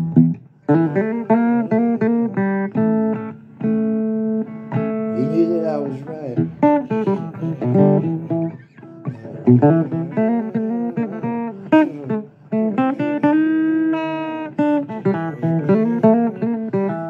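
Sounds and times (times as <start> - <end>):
blues guitar playing: 0.0 - 17.0.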